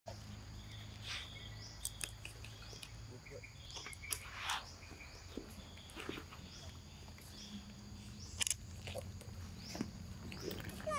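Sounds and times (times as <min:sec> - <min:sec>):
insects chirring: 0:00.1 - 0:10.9.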